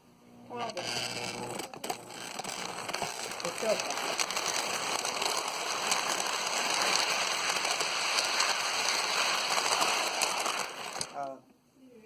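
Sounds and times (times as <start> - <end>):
small clicks: 0.6 - 11.4
toy train rattling on track: 0.6 - 11.4.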